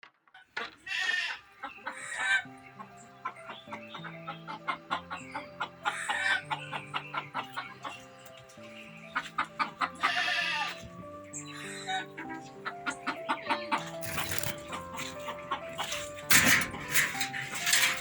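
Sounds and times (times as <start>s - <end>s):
chickens calling: 0.4s - 18.0s
background music: 0.9s - 18.0s.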